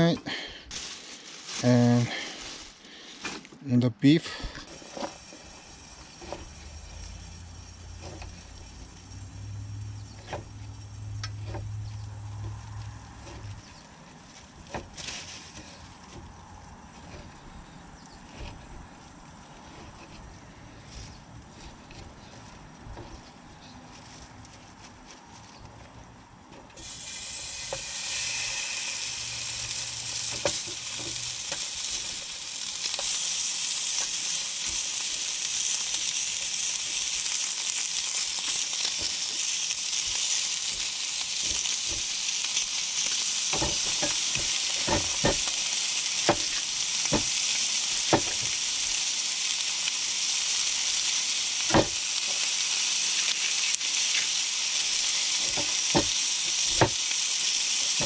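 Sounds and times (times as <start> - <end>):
meat sizzling in pan: 4.6 - 23.4, 26.8 - 58.0.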